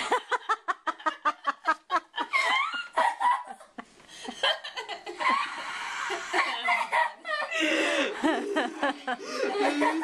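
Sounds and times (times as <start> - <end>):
girl laughing hard: 0.0 - 3.8, 4.4 - 10.0.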